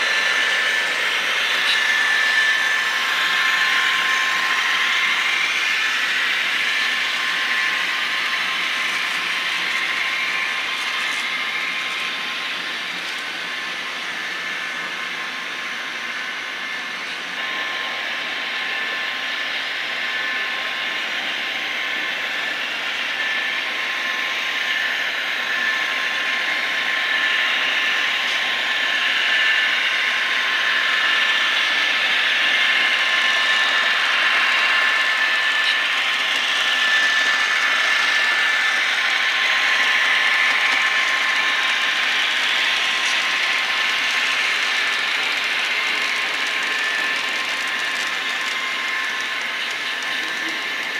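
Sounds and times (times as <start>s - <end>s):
model trains whirring on rails: 0.0s - 50.9s
thin high whine: 0.0s - 50.9s.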